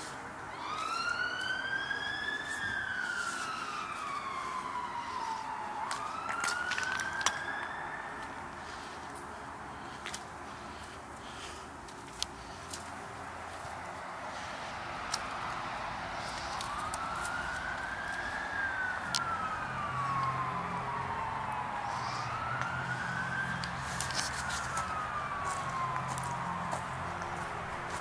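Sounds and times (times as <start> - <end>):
police siren wailing: 0.2 - 10.7, 12.8 - 28.0.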